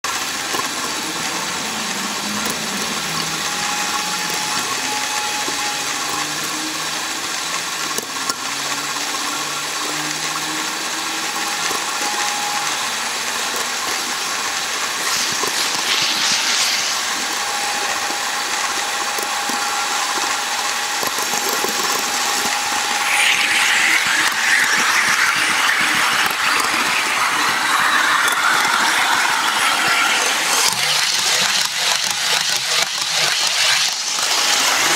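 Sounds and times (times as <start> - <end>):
model train whirring on track: 0.0 - 34.9.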